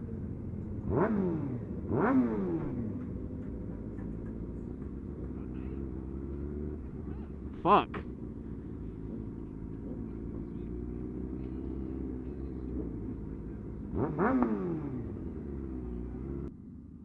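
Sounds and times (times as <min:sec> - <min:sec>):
motorbike engine rev: 0:00.0 - 0:16.5
motorbike engine running: 0:00.0 - 0:17.0.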